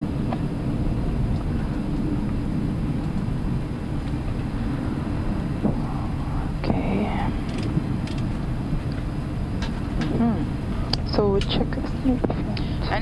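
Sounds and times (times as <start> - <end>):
aircraft low rumble: 0.0 - 13.0.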